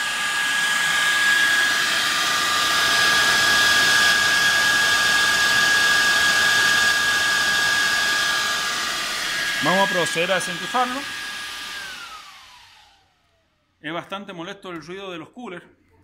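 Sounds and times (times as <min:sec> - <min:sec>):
cooling fans whining: 0:00.0 - 0:13.1.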